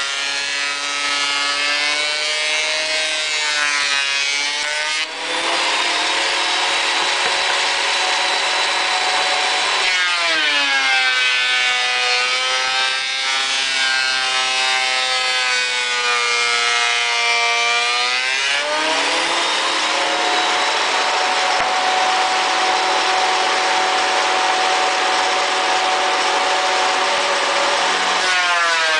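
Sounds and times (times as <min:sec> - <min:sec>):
thickness planer whining: 0:00.0 - 0:28.9.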